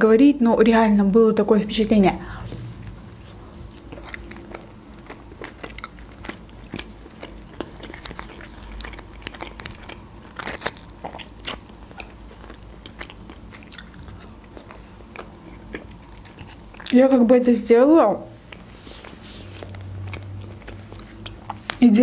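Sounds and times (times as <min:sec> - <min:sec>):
chewing and crunching bread: 0:02.5 - 0:17.0, 0:18.5 - 0:22.0.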